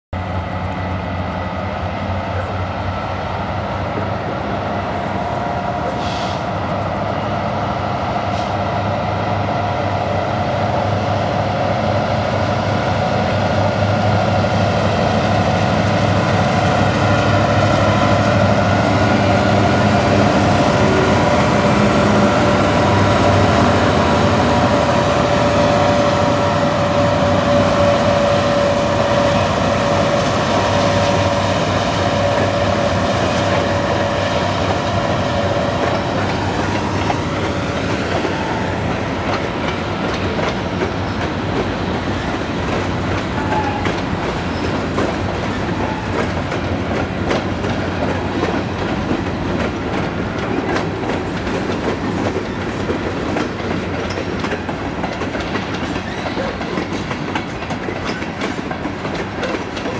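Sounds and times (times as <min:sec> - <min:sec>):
diesel locomotive engine drone: 0:00.1 - 0:59.9.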